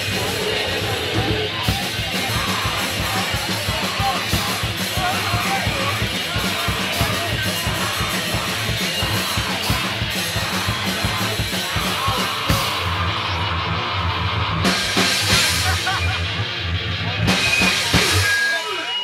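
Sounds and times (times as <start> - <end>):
fast drumming on drum kit: 0.0 - 13.4, 14.6 - 18.4
heavy metal band playing live: 0.0 - 19.0.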